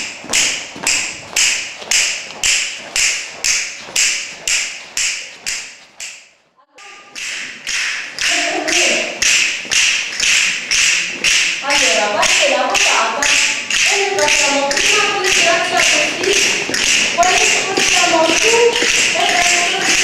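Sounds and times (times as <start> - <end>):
percussive beat of sharp taps: 0.0 - 6.2, 7.1 - 20.0.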